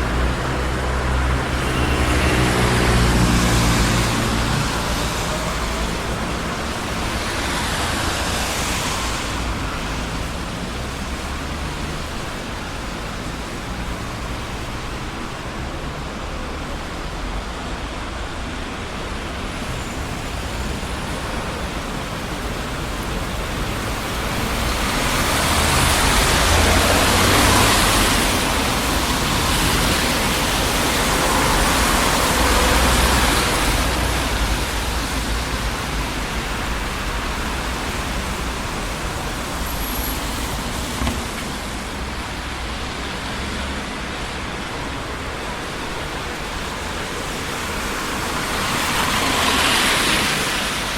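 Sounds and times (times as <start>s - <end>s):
city street traffic: 0.0s - 50.9s
vehicles passing close by: 0.0s - 50.9s.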